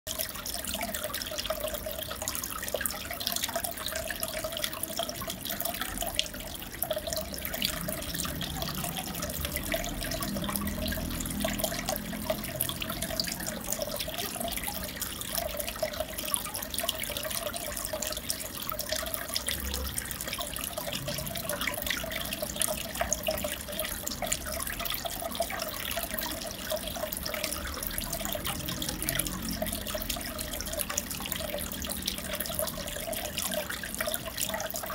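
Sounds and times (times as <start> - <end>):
aquarium water trickling: 0.1 - 34.9
water gurgle: 0.1 - 34.9.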